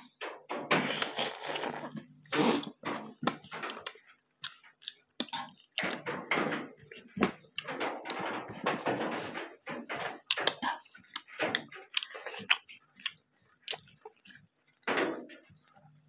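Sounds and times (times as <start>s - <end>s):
people chewing and smacking: 0.0s - 16.0s.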